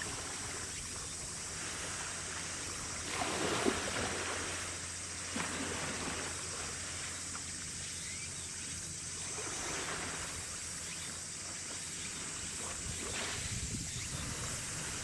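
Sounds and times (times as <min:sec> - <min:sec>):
constant low hum: 0:00.0 - 0:15.0
wash of wind and water: 0:00.0 - 0:15.0.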